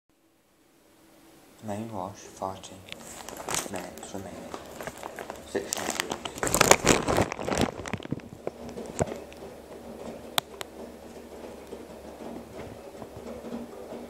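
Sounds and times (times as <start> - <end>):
washer low hum: 0.2 - 14.0
laundry tumbling in washer drum: 1.6 - 14.0.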